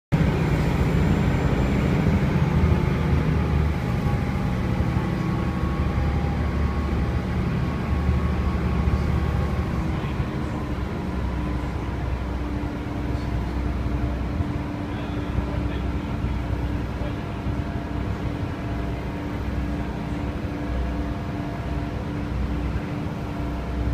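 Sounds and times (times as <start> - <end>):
ferry engines droning: 0.1 - 23.9.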